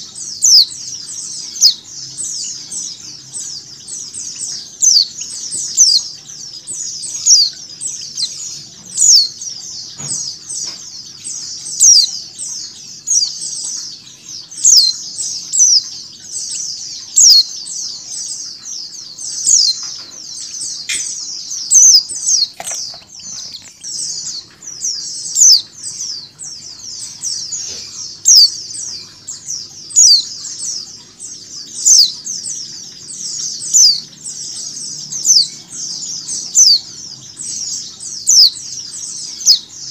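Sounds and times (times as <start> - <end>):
flock of birds twittering: 0.0 - 39.9
sharp bird calls: 0.0 - 39.9.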